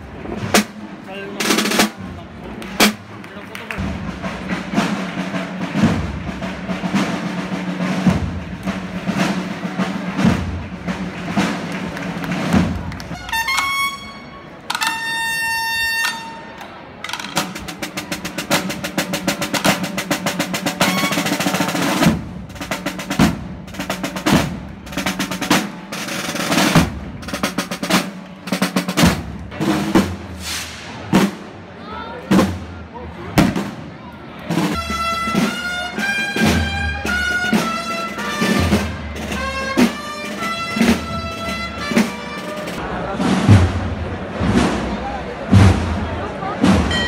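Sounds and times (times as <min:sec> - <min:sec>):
snare drums rolling: 0:00.0 - 0:32.8, 0:33.4 - 0:47.0.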